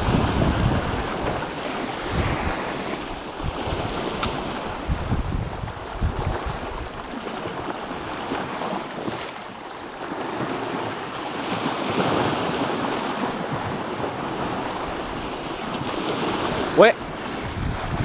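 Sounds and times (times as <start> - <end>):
sea waves washing over rocks: 0.0 - 18.0.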